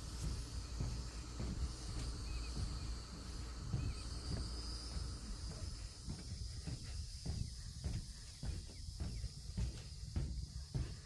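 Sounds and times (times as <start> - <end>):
insects droning: 0.0 - 11.0
faint bird chirps: 0.6 - 10.6.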